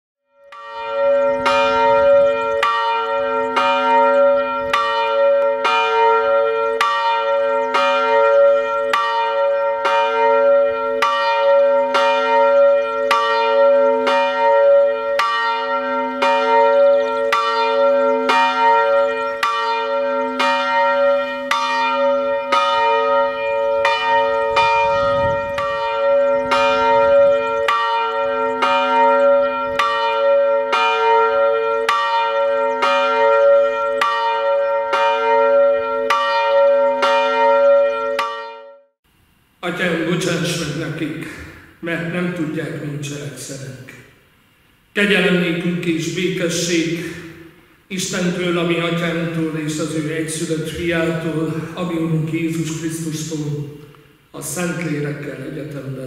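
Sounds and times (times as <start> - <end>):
church bell ringing: 0.2 - 38.9, 39.7 - 44.3, 45.0 - 56.0.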